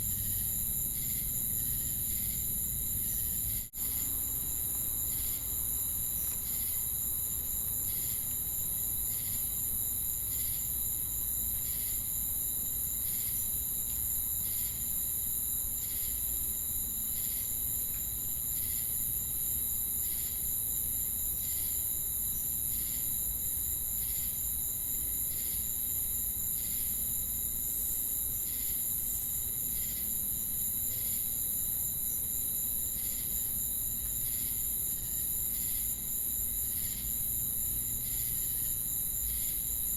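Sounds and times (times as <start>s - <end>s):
crickets and cicadas droning: 0.0s - 39.9s
insect chirp: 0.0s - 39.9s.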